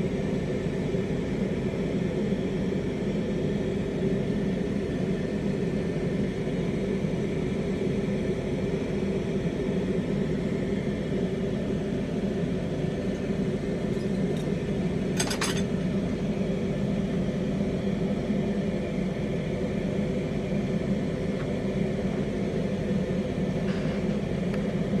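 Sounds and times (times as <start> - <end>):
torch flame rumbling: 0.0 - 25.0.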